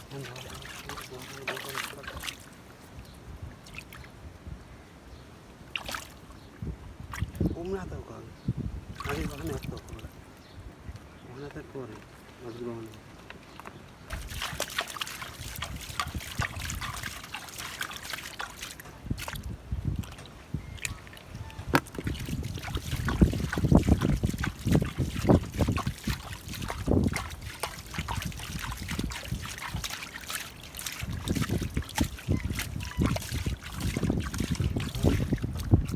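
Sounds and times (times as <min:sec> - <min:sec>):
water splashing and sloshing: 0:00.0 - 0:04.4, 0:05.5 - 0:07.6, 0:08.8 - 0:10.5, 0:11.5 - 0:35.9.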